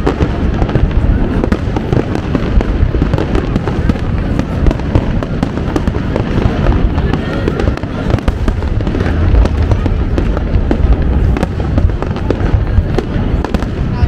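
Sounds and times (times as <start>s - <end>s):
crowd voices: 0.0s - 14.0s
fireworks booming: 0.0s - 14.0s
fireworks crackling: 0.0s - 14.0s.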